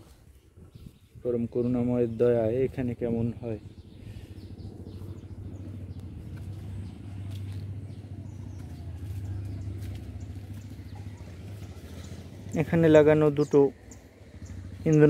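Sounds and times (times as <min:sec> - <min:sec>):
low outdoor rumble: 0:00.2 - 0:15.0.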